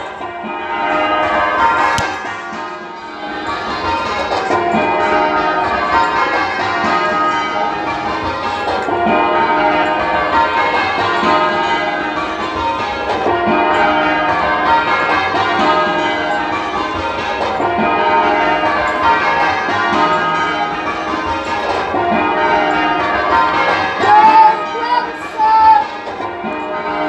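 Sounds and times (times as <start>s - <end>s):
church bells change ringing: 0.0s - 27.0s.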